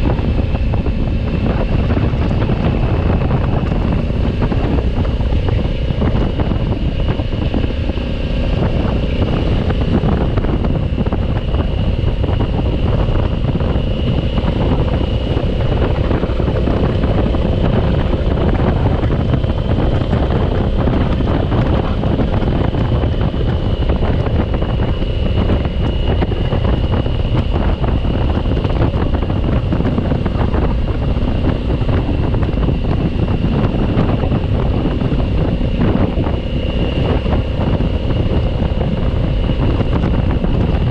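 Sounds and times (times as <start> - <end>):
motorcycle engine: 0.0 - 40.9
road noise: 0.0 - 40.9
wind buffeting microphone: 0.0 - 40.9.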